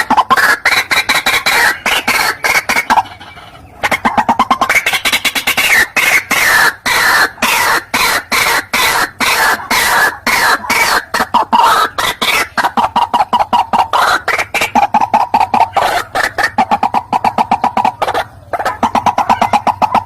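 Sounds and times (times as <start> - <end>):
bird clucking calls: 0.0 - 20.0.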